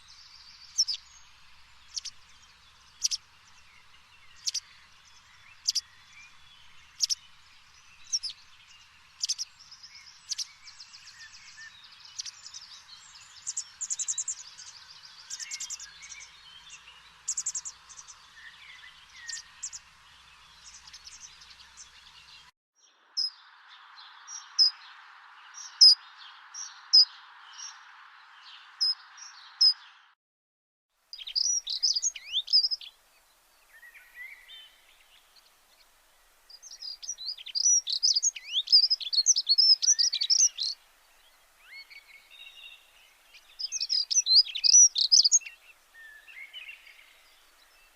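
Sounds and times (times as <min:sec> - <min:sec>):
steady hiss: 0:00.0 - 0:22.4, 0:31.0 - 0:47.9
small birds chirping: 0:00.0 - 0:30.2, 0:31.1 - 0:47.9.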